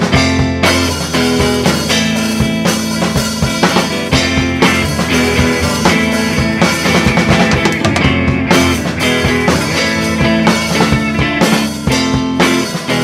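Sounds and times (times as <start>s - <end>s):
rock drum beat: 0.0s - 13.0s
sustained guitar: 0.0s - 13.0s.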